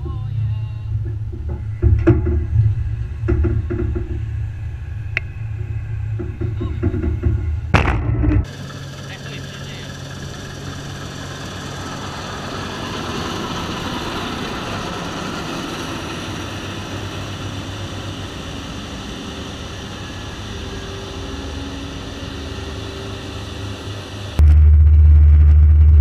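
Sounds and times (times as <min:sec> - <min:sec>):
combine harvester engine hum: 0:00.0 - 0:26.0.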